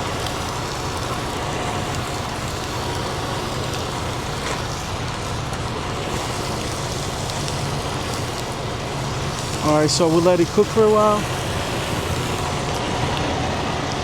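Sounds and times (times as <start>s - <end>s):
chicken sizzling in a pan: 0.0s - 13.8s
engine idling hum: 0.0s - 14.0s.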